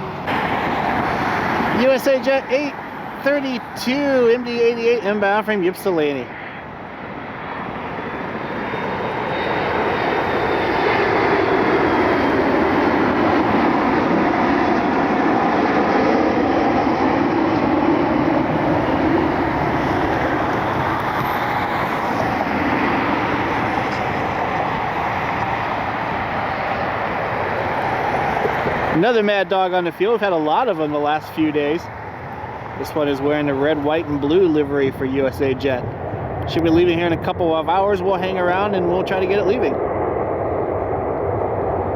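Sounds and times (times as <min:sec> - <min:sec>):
jet engine noise: 0:00.0 - 0:41.9.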